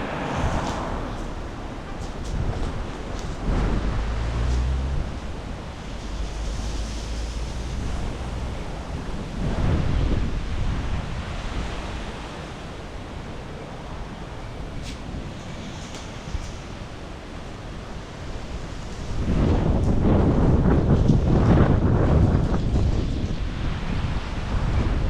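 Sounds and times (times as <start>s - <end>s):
storm wind buffeting microphone: 0.0s - 25.0s.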